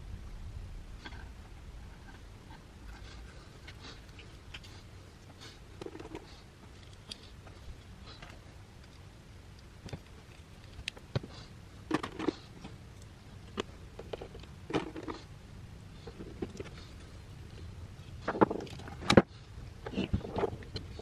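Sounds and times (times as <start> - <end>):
faint low hum: 0.0 - 21.0
small parts clicking and knocking: 2.0 - 15.3, 16.0 - 21.0.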